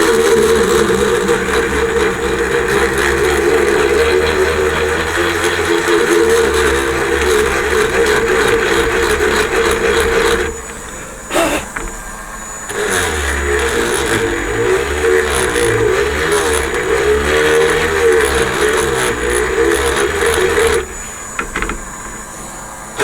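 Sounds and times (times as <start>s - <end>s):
electric rotary drill running: 0.0s - 23.0s.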